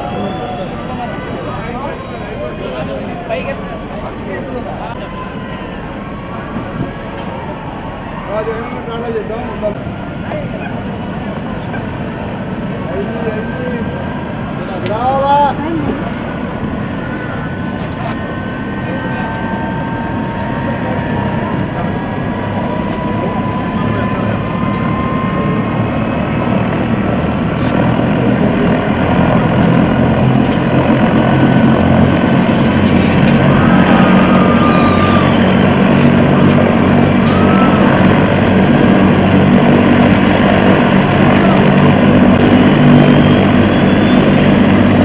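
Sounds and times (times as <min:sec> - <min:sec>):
helicopter rotor and engine whine: 0:00.0 - 0:45.0.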